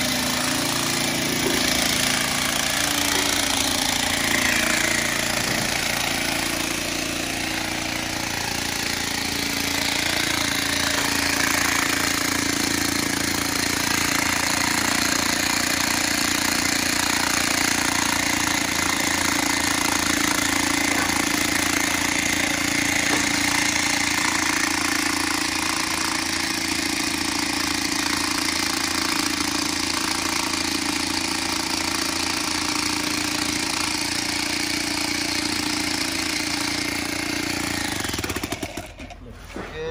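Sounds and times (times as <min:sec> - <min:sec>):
demolition hammer hammering: 0:00.0 - 0:39.1.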